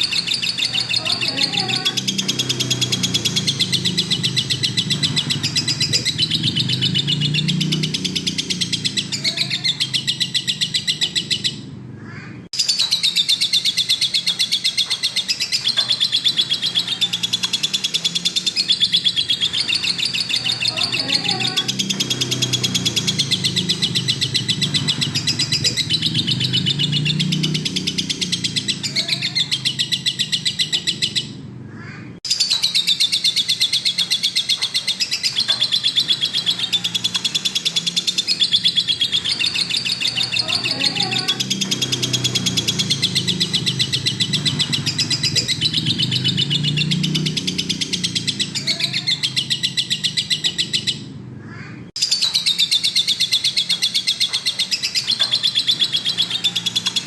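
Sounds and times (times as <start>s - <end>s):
lovebird chattering trill: 0.0s - 57.0s.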